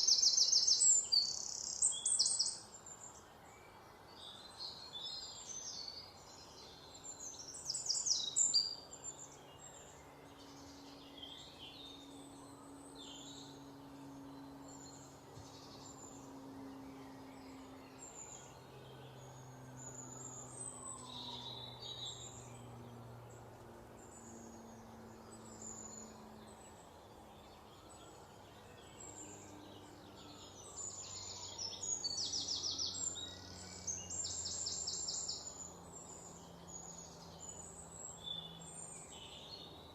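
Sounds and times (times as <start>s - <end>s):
birds chirping and singing: 0.0s - 39.9s
faint low hum: 0.0s - 39.9s.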